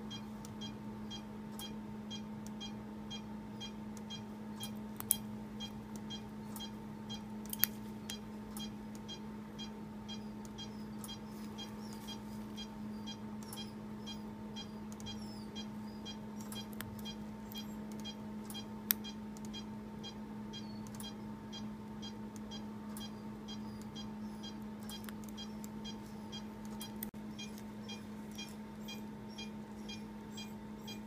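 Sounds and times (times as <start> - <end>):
equipment hum: 0.0 - 31.0
monitor beeping: 0.0 - 31.0.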